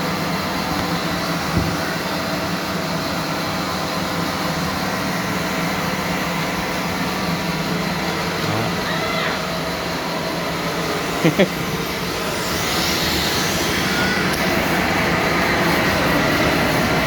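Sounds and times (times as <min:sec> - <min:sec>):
machine running with low hum: 0:00.0 - 0:17.0.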